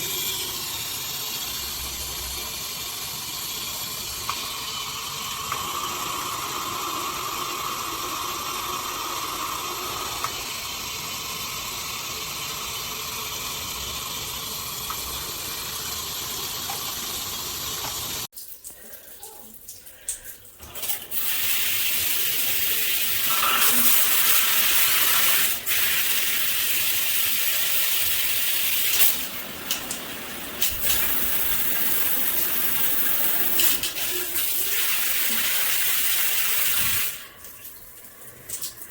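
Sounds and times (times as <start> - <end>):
water spraying from shower head: 0.0 - 38.9.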